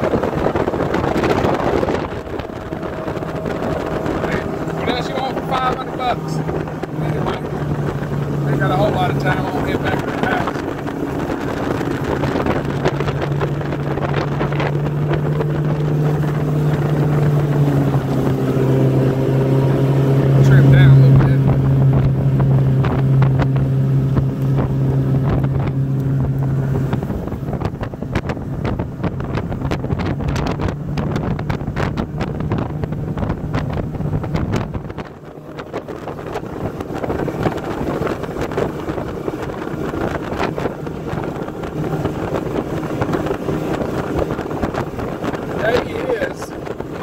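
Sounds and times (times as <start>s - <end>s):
boat engine humming: 0.0s - 47.0s
water noise: 0.0s - 47.0s
wind buffeting microphone: 0.0s - 47.0s.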